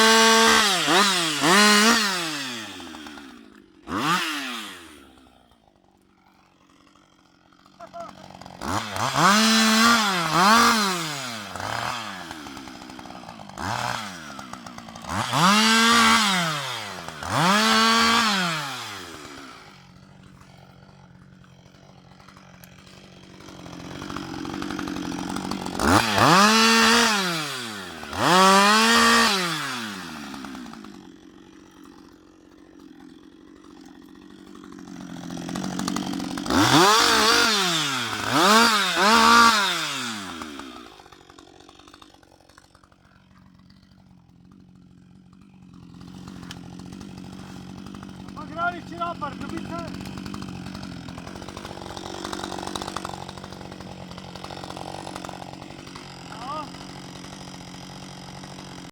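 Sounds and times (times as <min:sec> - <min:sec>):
chainsaw revving and idling: 0:00.0 - 0:58.9.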